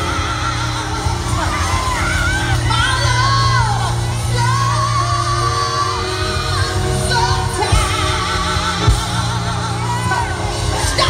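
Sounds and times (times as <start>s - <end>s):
live band music: 0.0s - 11.0s
woman singing: 0.0s - 11.0s.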